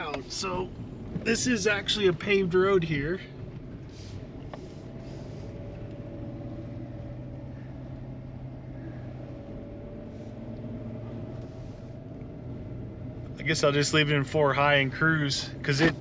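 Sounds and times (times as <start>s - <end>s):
vehicle engine and road drone: 0.0s - 16.0s.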